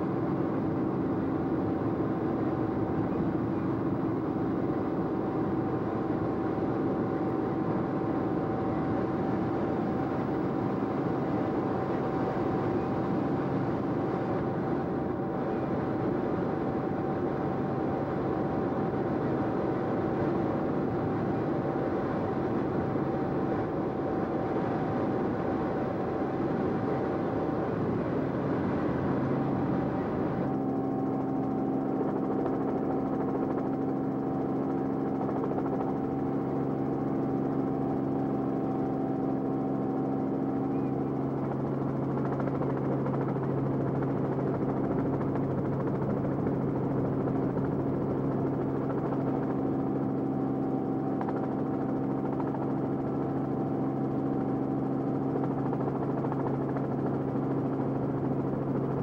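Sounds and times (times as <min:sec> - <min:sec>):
aircraft engine and rotor drone: 0:00.0 - 0:59.0.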